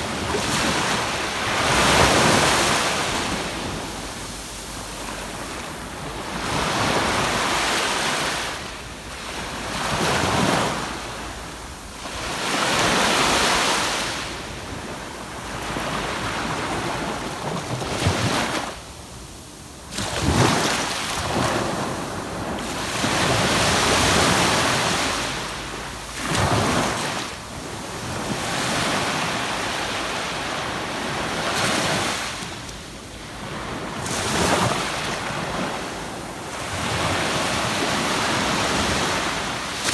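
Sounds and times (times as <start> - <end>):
ocean waves breaking on beach: 0.0 - 18.8, 19.8 - 39.9.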